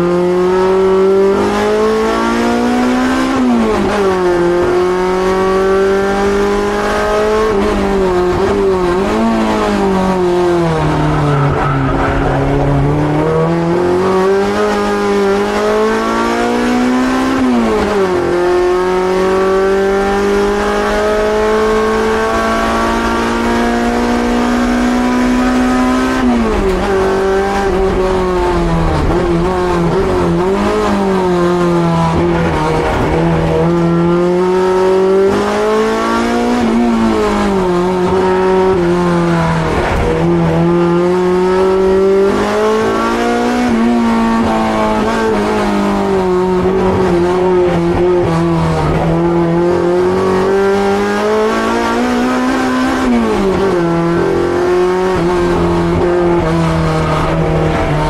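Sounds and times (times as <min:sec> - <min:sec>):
racing engine revving: 0:00.0 - 0:58.0.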